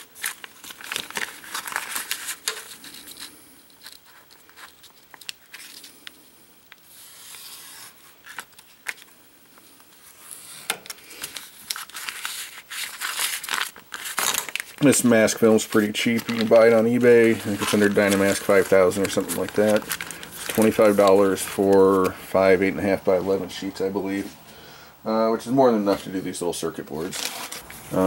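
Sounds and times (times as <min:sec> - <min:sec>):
plastic sheet crinkling: 0:00.0 - 0:06.2, 0:06.8 - 0:24.3, 0:27.0 - 0:28.0.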